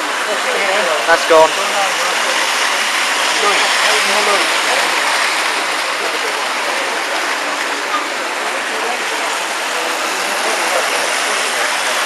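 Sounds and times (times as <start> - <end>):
indistinct crowd chatter: 0.0 - 12.0.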